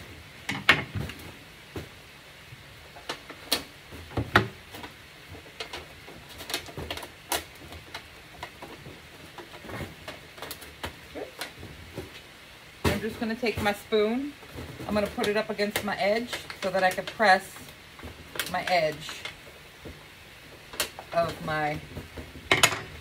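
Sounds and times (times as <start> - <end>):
aluminum sheet crackling: 0.0 - 23.0.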